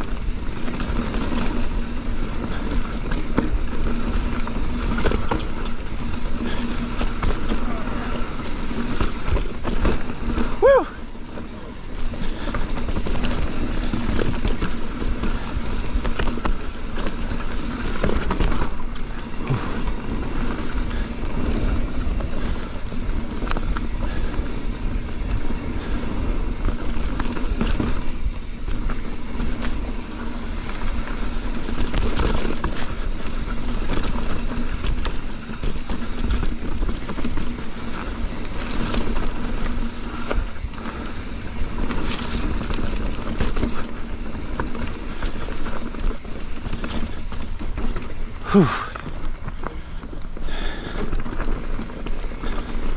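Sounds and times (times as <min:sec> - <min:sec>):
bike knocking and rattling: 0:00.0 - 0:52.9
bike tyres on dirt and rock: 0:00.0 - 0:52.9
wind rumbling on microphone: 0:00.0 - 0:52.9.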